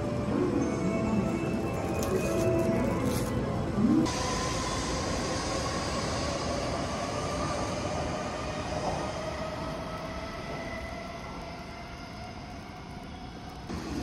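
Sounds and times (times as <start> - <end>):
bullet train rumbling on rails: 0.0 - 14.0
faint steady whining tones: 0.0 - 14.0.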